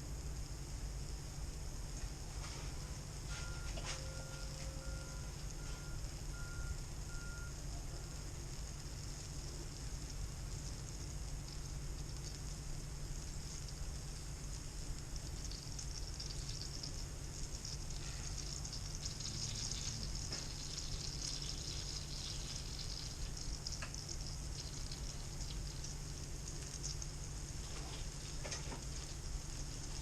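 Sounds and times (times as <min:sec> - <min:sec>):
low steady hum: 0:00.0 - 0:30.0
sizzling in a hot pan: 0:00.0 - 0:30.0.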